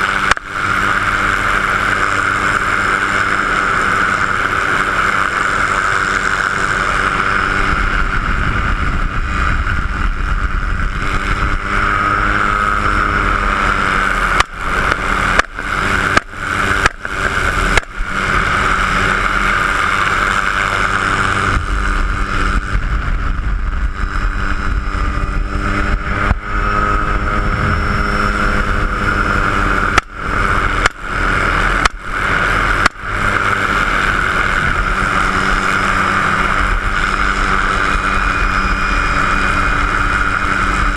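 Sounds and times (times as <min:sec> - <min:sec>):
helicopter turbine whine and rotor: 0:00.0 - 0:40.9
wind rush: 0:00.0 - 0:40.9.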